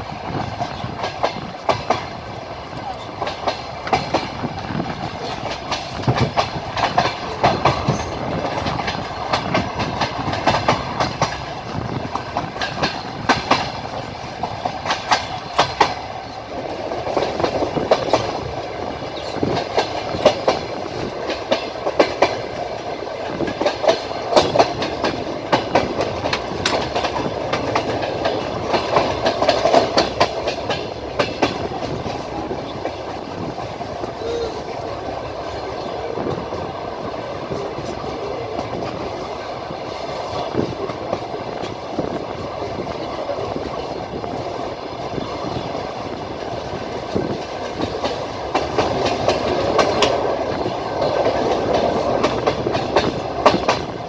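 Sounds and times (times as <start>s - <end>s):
railway carriage rumbling: 0.0s - 54.0s
train wheels clattering: 0.0s - 54.0s.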